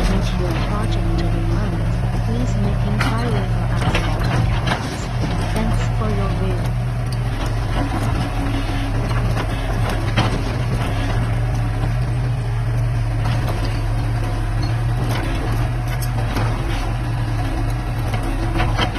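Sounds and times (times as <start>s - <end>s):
excavator diesel engine running: 0.0s - 18.9s.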